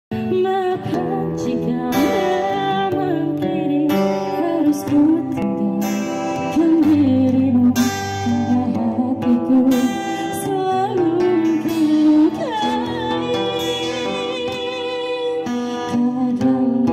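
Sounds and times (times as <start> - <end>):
strummed acoustic guitar: 0.1 - 16.9.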